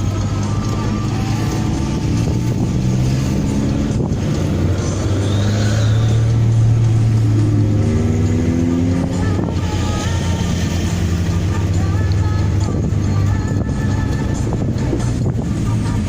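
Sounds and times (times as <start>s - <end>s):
car exhaust revving: 0.0s - 16.0s.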